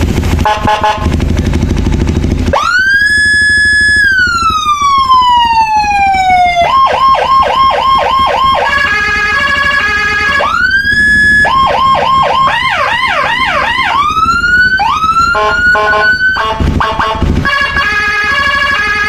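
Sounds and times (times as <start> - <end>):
motorcycle engine running: 0.0 - 19.0
siren wailing and yelping: 2.5 - 19.0.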